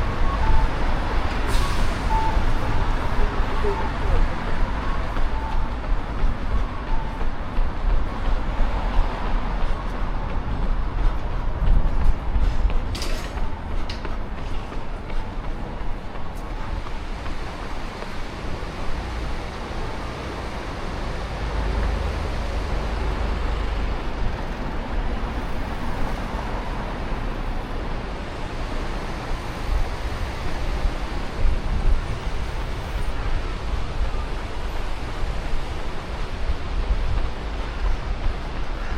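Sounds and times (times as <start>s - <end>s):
road traffic noise: 0.0s - 38.9s.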